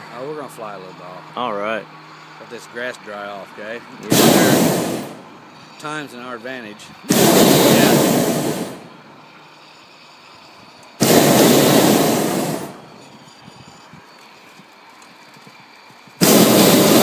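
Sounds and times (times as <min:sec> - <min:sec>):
propane burner blasts: 0:00.0 - 0:17.0.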